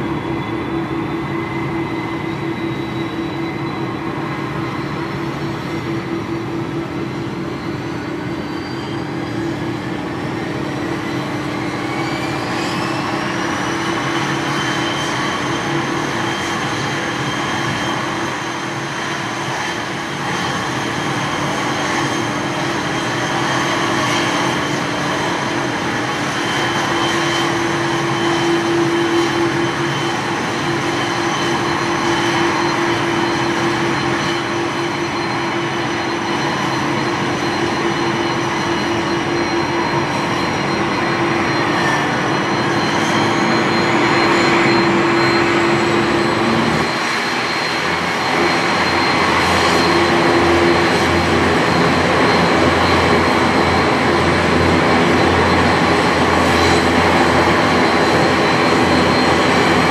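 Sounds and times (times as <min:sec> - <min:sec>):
turbine whine and hum: 0:00.0 - 0:59.9.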